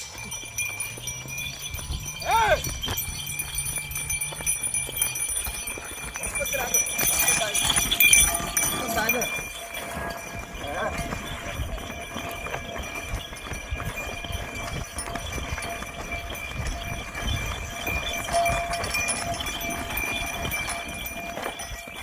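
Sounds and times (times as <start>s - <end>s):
hooves thudding on dirt: 0.0s - 22.0s.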